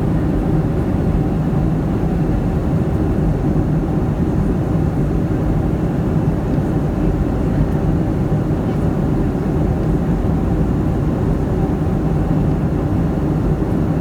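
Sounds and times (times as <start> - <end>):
airplane engine and airflow rumble: 0.0 - 14.0.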